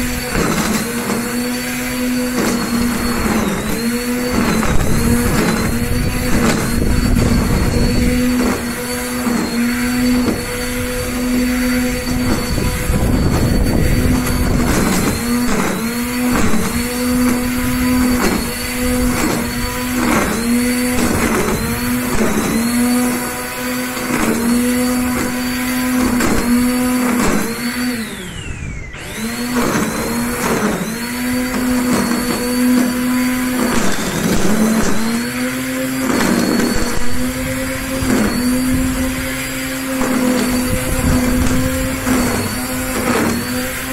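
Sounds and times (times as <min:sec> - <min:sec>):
electric string trimmer whining: 0:00.0 - 0:43.9.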